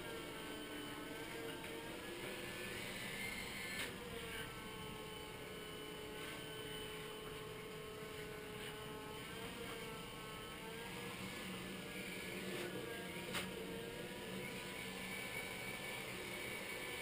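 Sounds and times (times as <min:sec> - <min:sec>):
robotic floor mop motor whine: 0:00.0 - 0:17.0.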